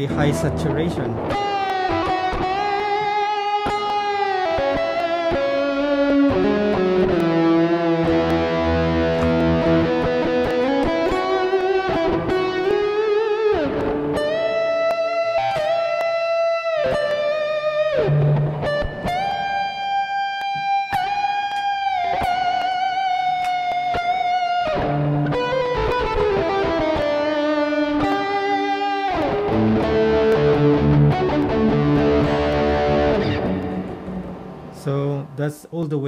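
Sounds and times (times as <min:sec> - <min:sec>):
distorted electric guitar lead: 0:00.0 - 0:35.4.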